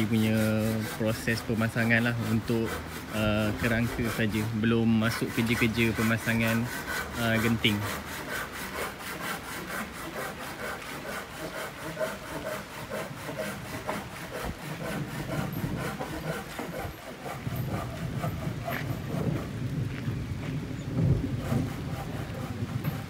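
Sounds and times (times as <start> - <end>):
saw cutting timber: 0.0 - 19.8, 20.9 - 23.0.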